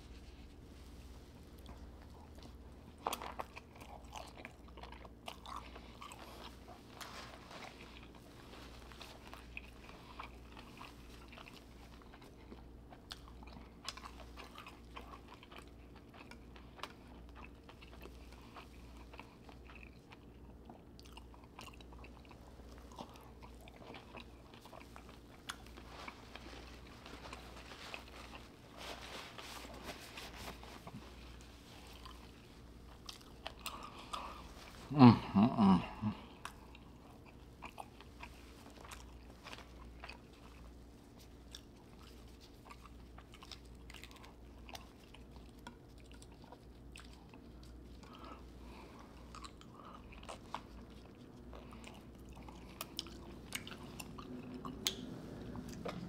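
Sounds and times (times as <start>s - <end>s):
low steady hum: 0.0s - 56.0s
wet chewing and smacking: 0.1s - 34.9s, 36.2s - 56.0s.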